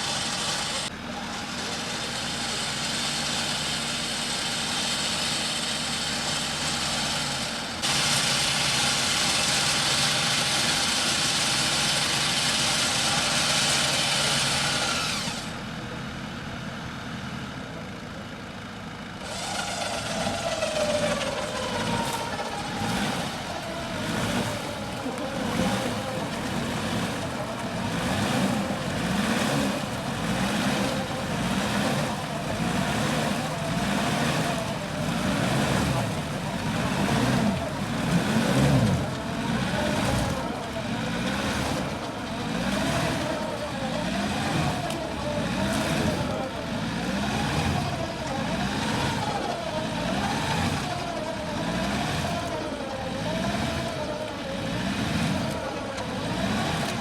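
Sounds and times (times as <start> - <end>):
engine revving: 0.0 - 15.6, 19.2 - 57.0.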